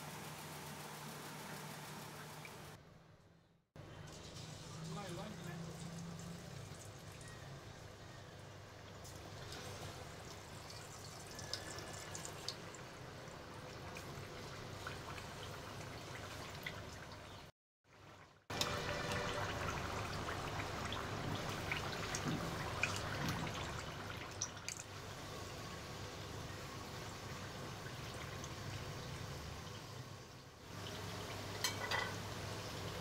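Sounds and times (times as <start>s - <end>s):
potatoes deep-frying in oil: 3.8s - 33.0s.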